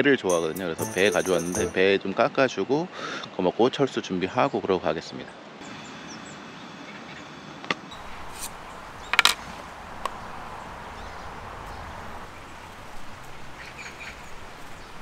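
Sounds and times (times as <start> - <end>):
outdoor background noise: 2.3 - 15.0.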